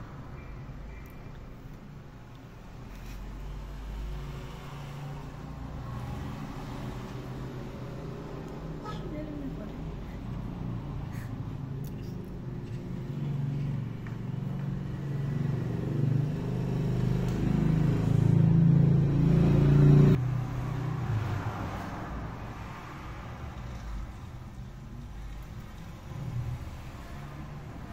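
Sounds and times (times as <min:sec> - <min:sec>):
faint street noise: 0:00.0 - 0:27.9.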